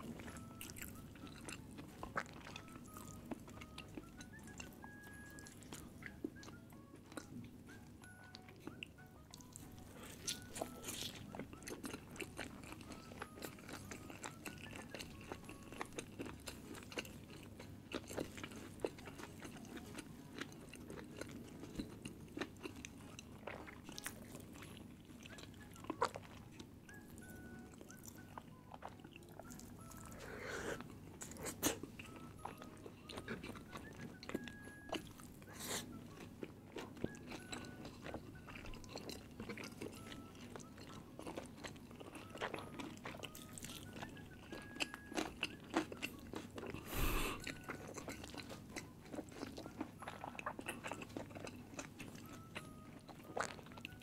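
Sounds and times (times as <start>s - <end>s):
chewing and biting food: 0.0s - 54.0s.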